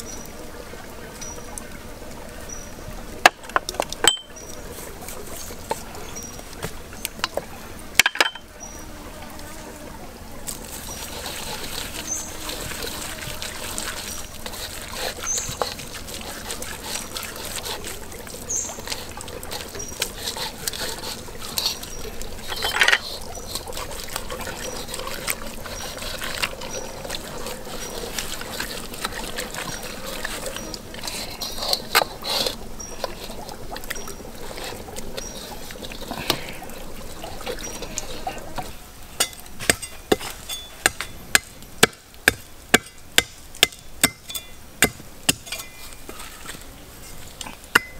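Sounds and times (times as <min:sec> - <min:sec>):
stream trickling: 0:00.0 - 0:47.9.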